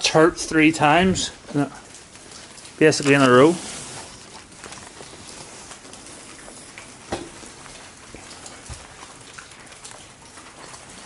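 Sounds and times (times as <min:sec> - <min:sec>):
faint steady noise: 0:00.0 - 0:11.0.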